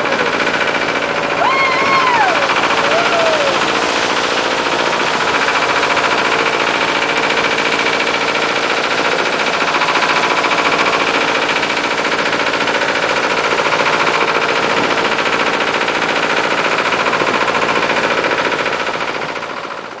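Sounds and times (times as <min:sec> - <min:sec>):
motorboat engine running: 0:00.0 - 0:20.0
water rushing along hull: 0:00.0 - 0:20.0.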